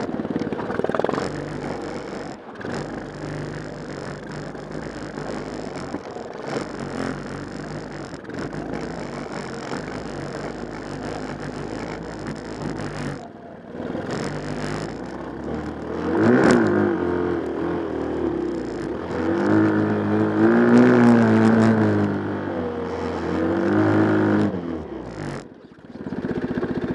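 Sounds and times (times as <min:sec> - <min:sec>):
small engine running and revving: 0:00.0 - 0:26.9.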